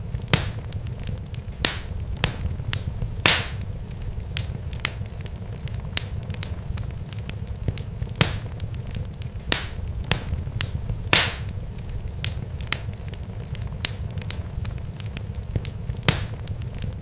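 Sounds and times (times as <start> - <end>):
sharp crackles and pops: 0.0 - 17.0
steady low rumble: 0.0 - 17.0.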